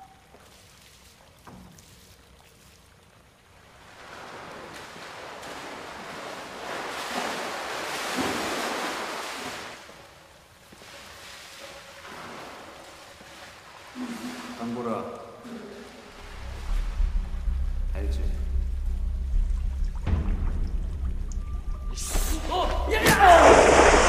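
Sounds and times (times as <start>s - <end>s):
heavy water splashing: 0.6s - 24.0s.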